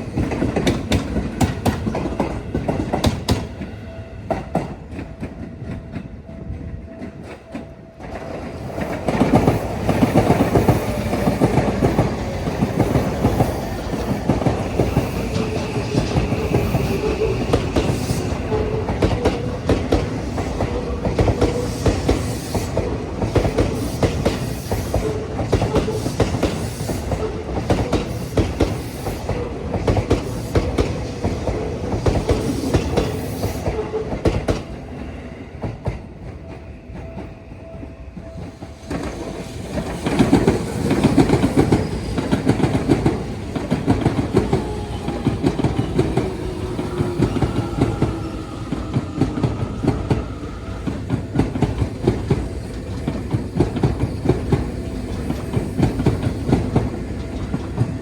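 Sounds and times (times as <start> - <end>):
electric train hum: 0.0 - 58.0.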